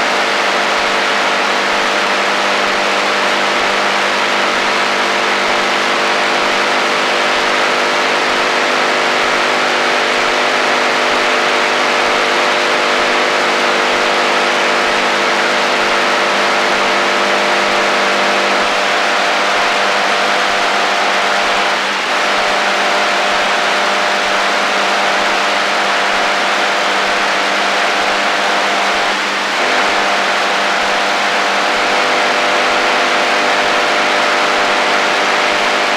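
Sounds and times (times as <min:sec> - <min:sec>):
droning interference tones: 0:00.0 - 0:35.9
radio static hiss: 0:00.0 - 0:35.9.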